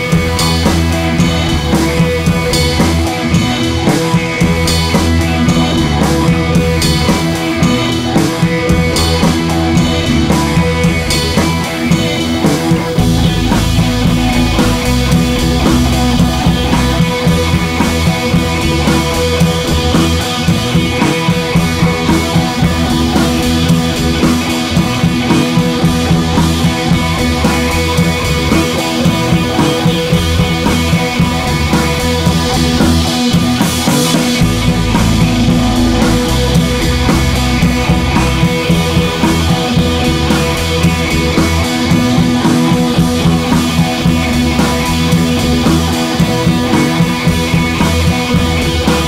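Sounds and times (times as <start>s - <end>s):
rock music with drums and guitar: 0.0s - 49.0s.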